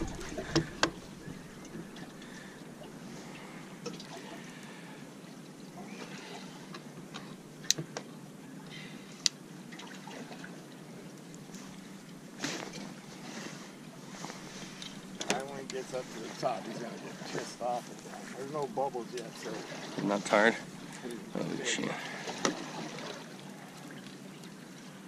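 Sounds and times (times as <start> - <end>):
low even hum: 0.0 - 25.0
water trickling and lapping: 0.0 - 25.0.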